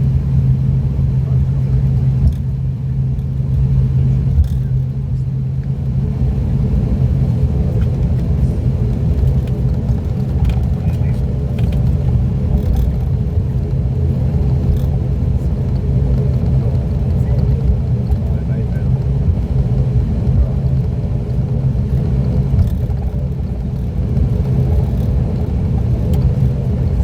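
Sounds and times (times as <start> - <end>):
turboprop propeller hum: 0.0 - 27.0.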